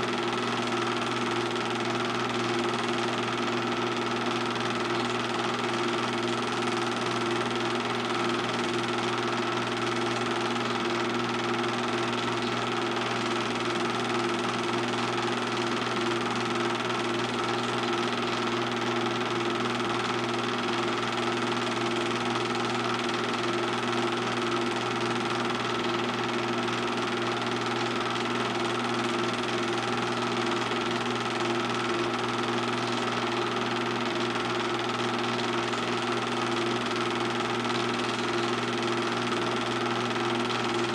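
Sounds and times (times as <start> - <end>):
film projector humming and whirring: 0.0 - 40.9.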